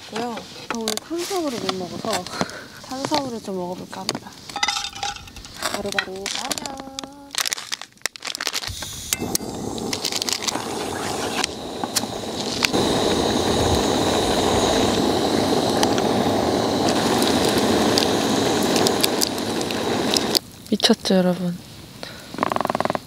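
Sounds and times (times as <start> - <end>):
gas stove burner hissing: 0.0 - 7.3, 8.7 - 23.0.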